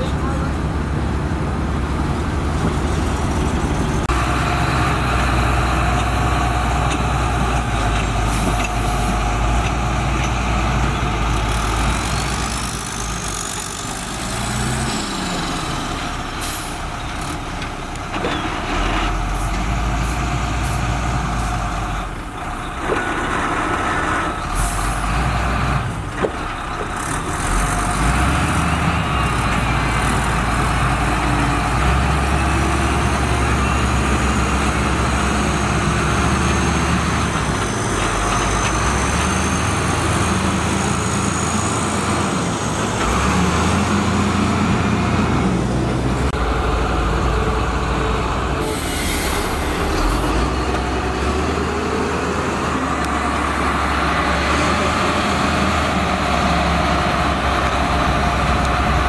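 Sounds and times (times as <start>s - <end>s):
heavy diesel engine working: 0.0s - 59.0s.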